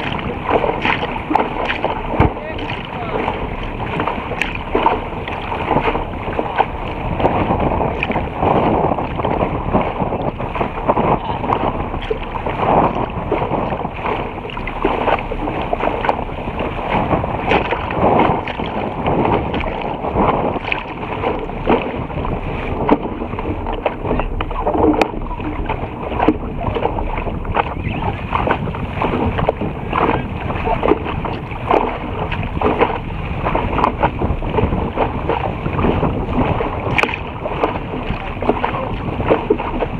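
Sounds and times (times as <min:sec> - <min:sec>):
water splashing against boat bow: 0:00.0 - 0:39.9.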